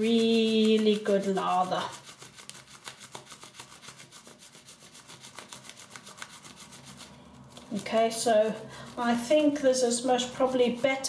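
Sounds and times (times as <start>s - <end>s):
shaving brush rubbing lather: 0.0s - 11.0s.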